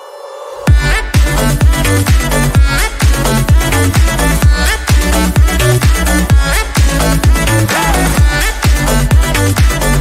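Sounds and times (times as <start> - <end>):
electronic dance music: 0.0 - 10.0
heavy kick drum beat: 0.7 - 10.0.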